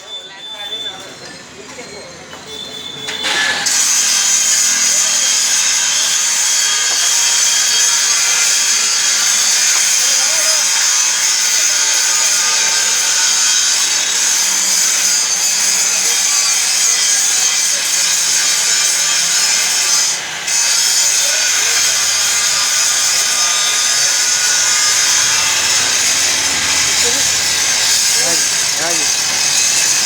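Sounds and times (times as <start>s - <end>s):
power tool cutting: 3.1s - 30.0s.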